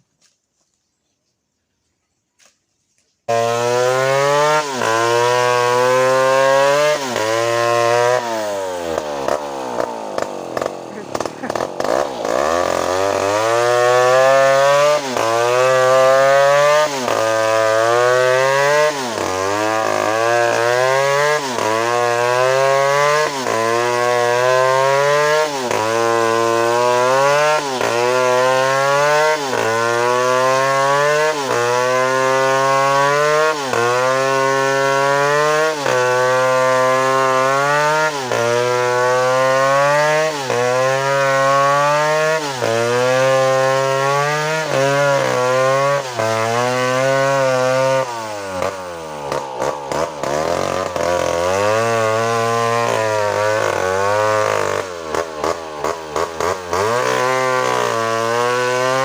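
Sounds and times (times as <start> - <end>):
chainsaw engine revving: 3.3 - 59.0.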